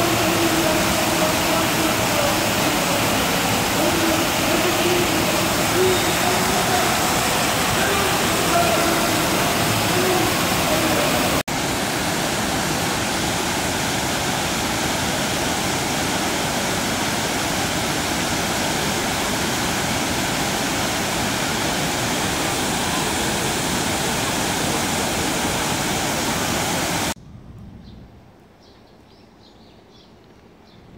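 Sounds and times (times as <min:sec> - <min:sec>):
water pouring down fountain: 0:00.0 - 0:27.2.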